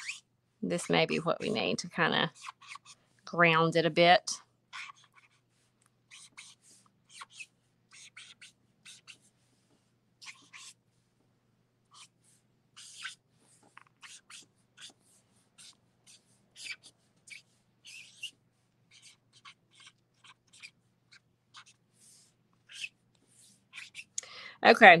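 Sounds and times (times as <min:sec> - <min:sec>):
marker scratching on paper: 0:00.0 - 0:04.0, 0:04.7 - 0:11.1, 0:11.9 - 0:24.2.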